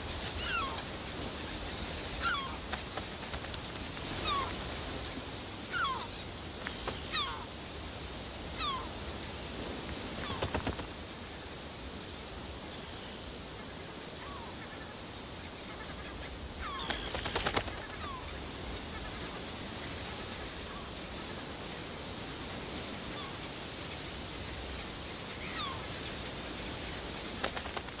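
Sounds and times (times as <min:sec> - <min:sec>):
falling bird calls: 0:00.0 - 0:04.7, 0:05.6 - 0:07.6, 0:08.5 - 0:09.3, 0:10.1 - 0:11.5, 0:12.6 - 0:21.8, 0:23.1 - 0:28.0
wind: 0:00.0 - 0:28.0.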